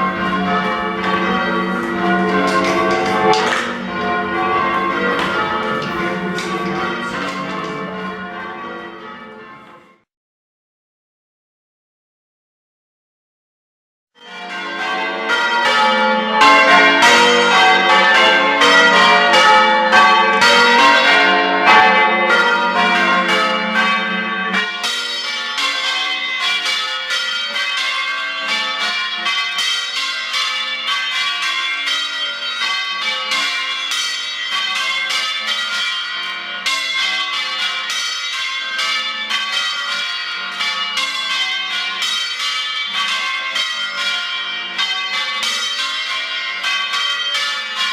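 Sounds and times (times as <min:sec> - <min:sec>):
church bells ringing in changes: 0:00.0 - 0:10.1, 0:14.2 - 0:47.9.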